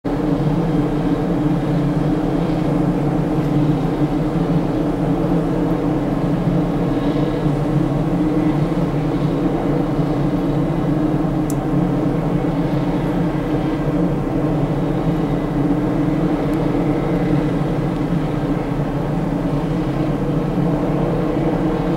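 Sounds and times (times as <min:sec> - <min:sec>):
ship engines droning: 0:00.1 - 0:21.9.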